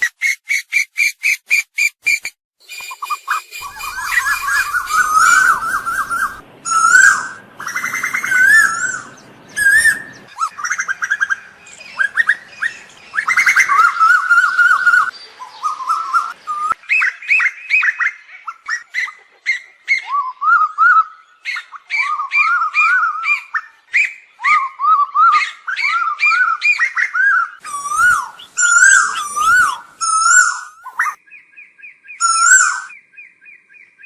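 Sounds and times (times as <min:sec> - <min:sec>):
bird whistled calls: 0:00.0 - 0:33.9.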